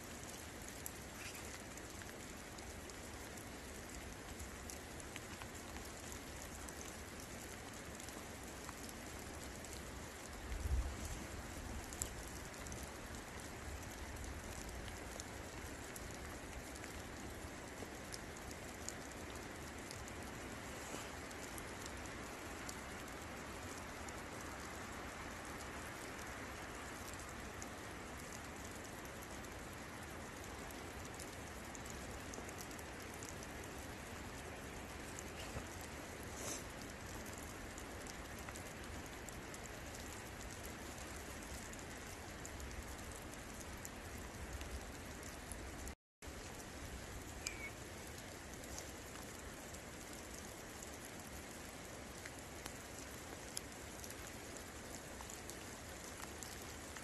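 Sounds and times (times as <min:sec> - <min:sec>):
steady rain falling: 0:00.0 - 0:57.0
sharp drip ticks: 0:00.2 - 0:57.0.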